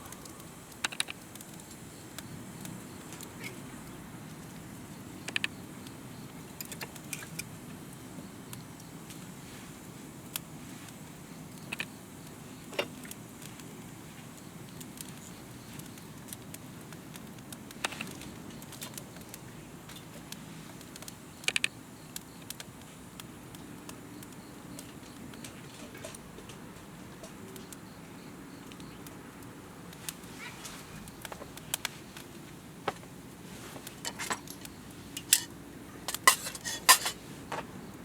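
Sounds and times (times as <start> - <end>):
campfire crackling and popping: 0.0 - 37.6.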